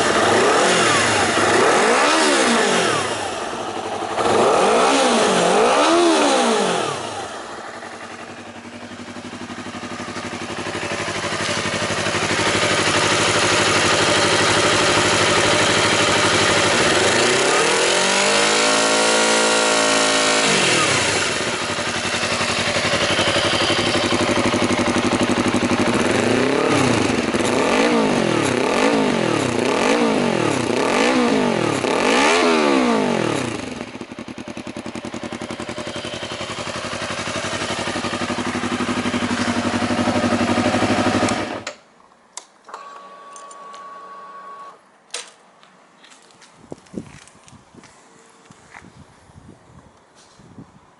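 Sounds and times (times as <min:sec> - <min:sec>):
motorcycle engine revving and idling: 0:00.0 - 0:41.8.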